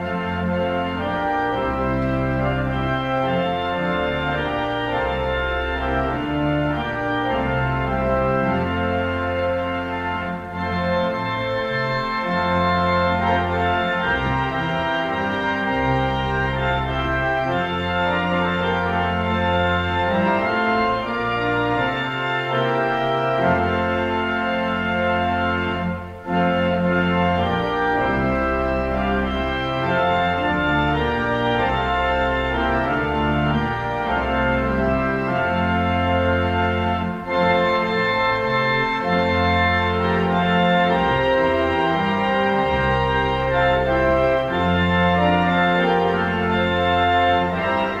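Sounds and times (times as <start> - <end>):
organ playing held chords: 0.0 - 48.0.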